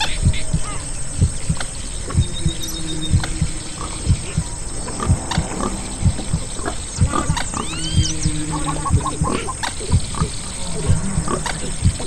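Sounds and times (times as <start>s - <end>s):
animal calls: 0.0s - 12.0s
heartbeat thumping: 0.0s - 12.0s
high arching calls: 0.0s - 12.0s.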